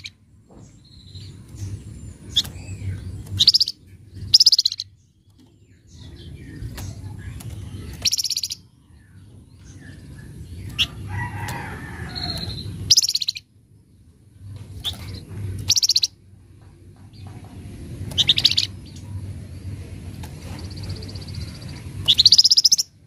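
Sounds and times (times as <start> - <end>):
low rumble: 0.0 - 23.0
songbird rattling chatters: 1.0 - 8.7, 9.3 - 13.4, 14.7 - 16.2, 17.1 - 23.0.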